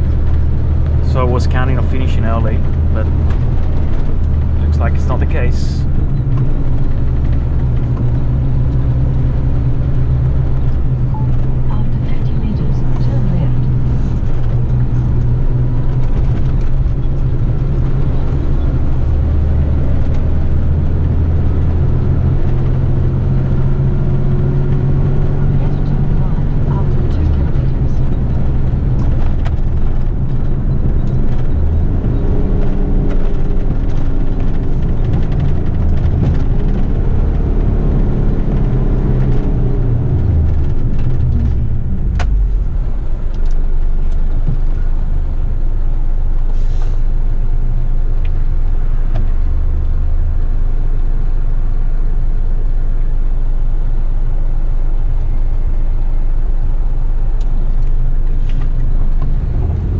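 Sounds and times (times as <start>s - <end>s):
truck diesel engine pulling away: 0.0s - 50.4s, 57.8s - 59.9s.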